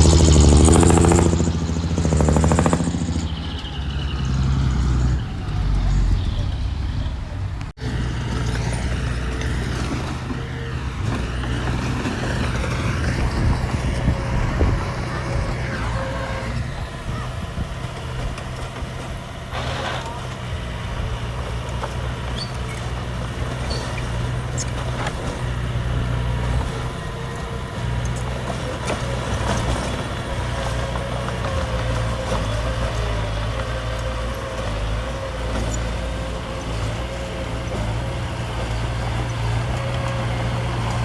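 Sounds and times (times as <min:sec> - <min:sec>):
diesel machinery engine hum: 0:00.0 - 0:41.0.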